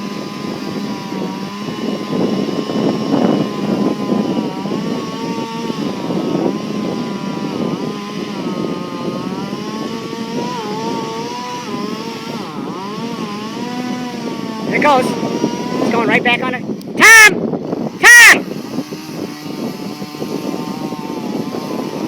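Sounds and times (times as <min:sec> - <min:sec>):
chainsaw cutting tree: 0:00.0 - 0:22.0.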